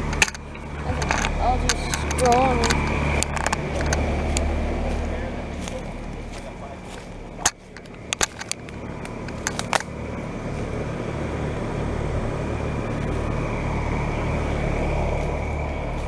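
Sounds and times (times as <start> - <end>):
heat pump fan rush: 0.0 - 16.0
low compressor hum: 0.0 - 16.0.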